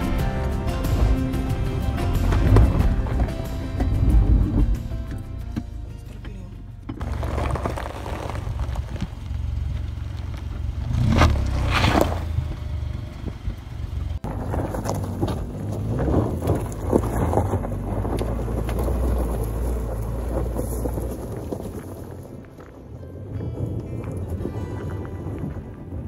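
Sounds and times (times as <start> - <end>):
low engine rumble: 0.0 - 26.0
tyres crunching on gravel: 0.0 - 26.0.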